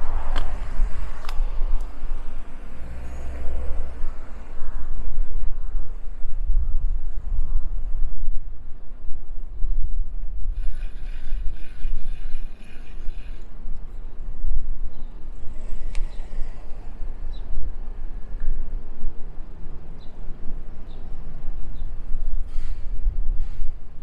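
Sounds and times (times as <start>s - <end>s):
wind buffeting the microphone: 0.0s - 24.0s.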